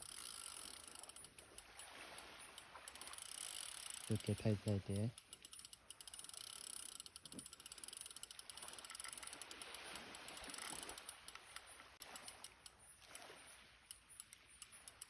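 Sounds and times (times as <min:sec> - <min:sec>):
fishing reel drag clicking: 0:00.0 - 0:15.0.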